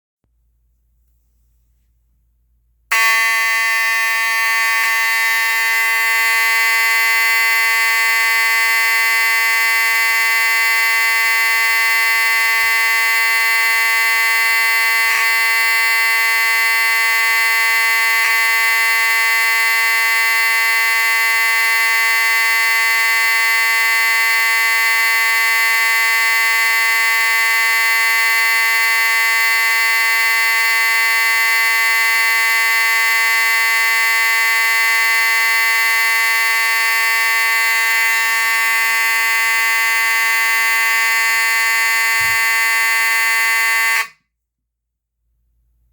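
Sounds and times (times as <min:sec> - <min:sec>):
buzzy fire alarm horn: 0:02.9 - 0:44.4.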